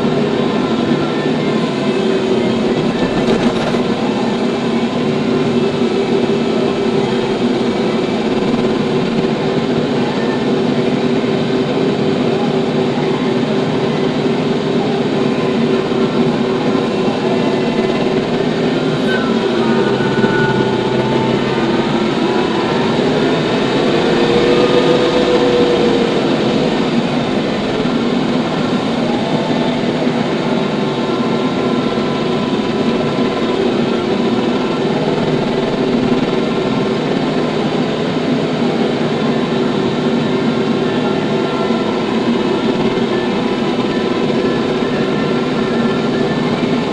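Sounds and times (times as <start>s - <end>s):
tractor engine droning: 0.0s - 46.9s.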